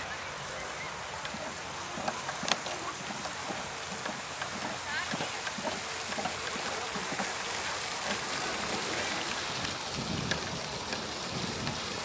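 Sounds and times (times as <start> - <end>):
fountain splashing into basin: 0.0 - 12.0.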